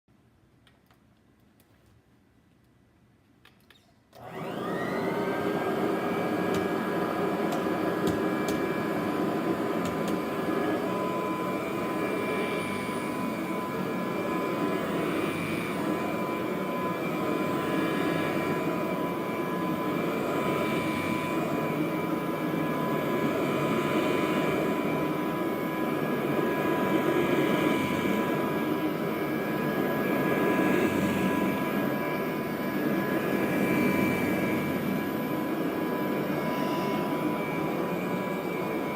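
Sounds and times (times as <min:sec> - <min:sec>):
vacuum cleaner motor whine: 0:04.2 - 0:38.9.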